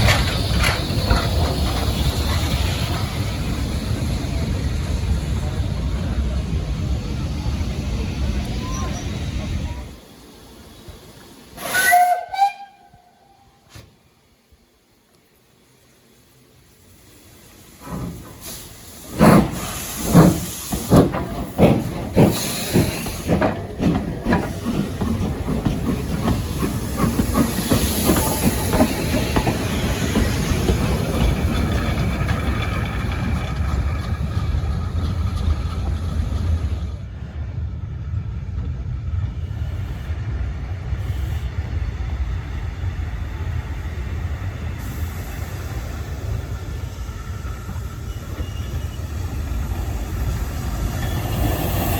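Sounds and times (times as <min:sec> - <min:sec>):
steam locomotive exhaust beats: 0:00.0 - 0:13.9, 0:16.6 - 0:51.9
hissing steam: 0:00.0 - 0:14.1, 0:15.4 - 0:37.1, 0:39.1 - 0:51.9
low rumble of moving train: 0:00.0 - 0:51.9.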